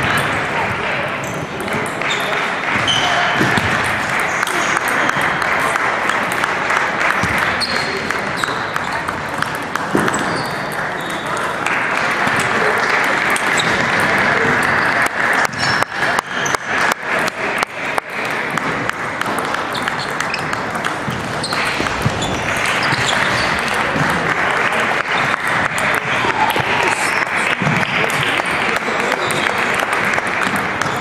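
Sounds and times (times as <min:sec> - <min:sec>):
murmur of sports hall: 0:00.0 - 0:31.0.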